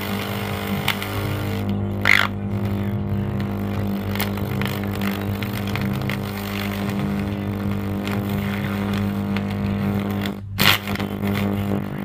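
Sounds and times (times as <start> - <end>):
electric arc buzzing and crackling: 0.0 - 12.0.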